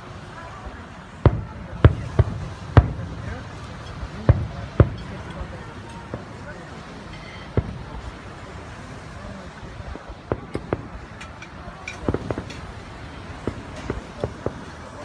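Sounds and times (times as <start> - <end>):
low background noise: 0.0 - 15.0
firework bangs and pops: 1.2 - 15.0.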